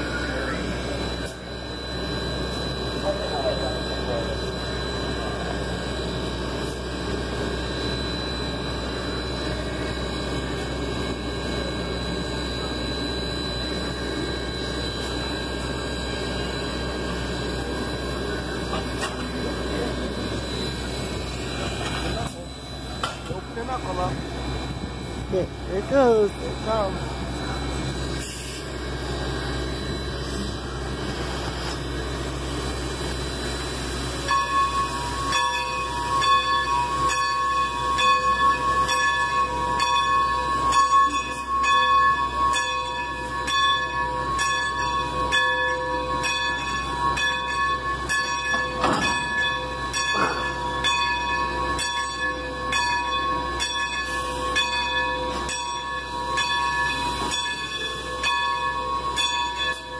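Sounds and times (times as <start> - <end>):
locomotive low rumble: 0.0 - 59.7
locomotive bell ringing: 0.0 - 59.9.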